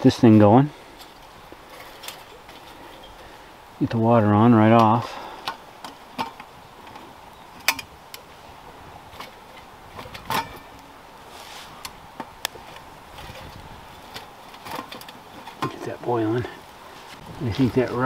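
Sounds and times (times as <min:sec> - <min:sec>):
twigs burning and crackling: 0:00.2 - 0:18.0.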